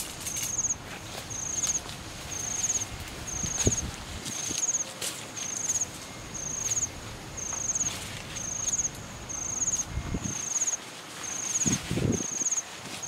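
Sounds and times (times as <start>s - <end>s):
insect high-pitched trills: 0.0s - 12.7s
grass and weeds rustling: 0.0s - 13.0s.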